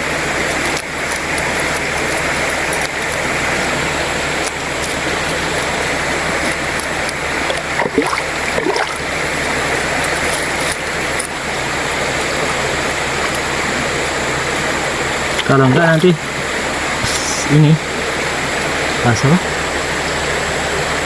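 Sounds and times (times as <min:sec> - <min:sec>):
river water rushing over rocks: 0:00.0 - 0:21.0
water gurgles: 0:00.0 - 0:21.0.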